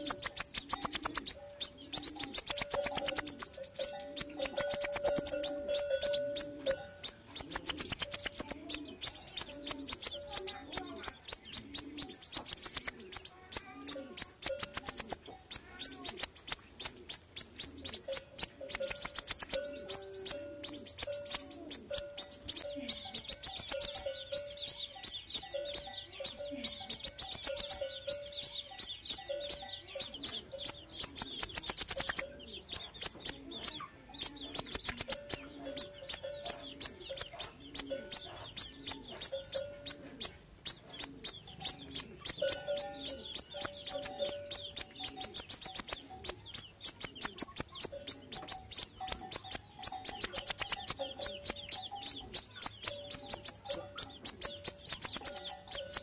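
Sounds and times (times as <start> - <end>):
bird high chipping trills: 0.0 - 56.0.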